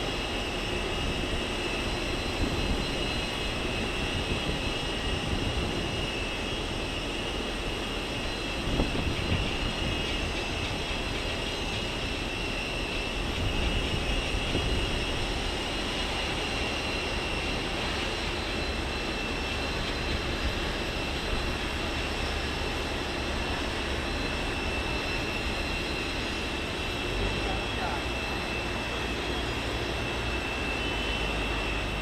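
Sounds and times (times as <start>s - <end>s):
high-pitched jet whine: 0.0s - 32.0s
jet aircraft rumble: 0.0s - 32.0s.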